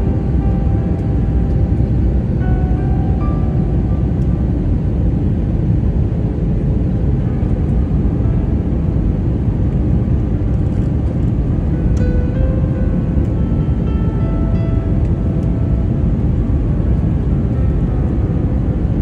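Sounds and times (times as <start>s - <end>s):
faint musical notes: 0.0s - 19.0s
jet engine and airflow rumble: 0.0s - 19.0s.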